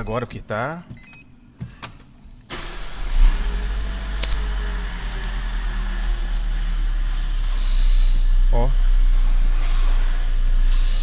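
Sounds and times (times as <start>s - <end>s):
car engine starting and idling: 1.9s - 11.0s.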